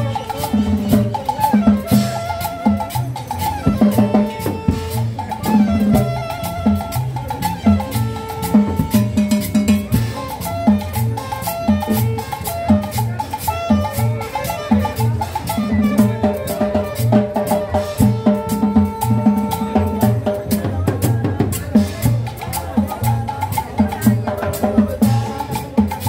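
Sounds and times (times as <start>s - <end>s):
latin dance music: 0.0s - 26.0s.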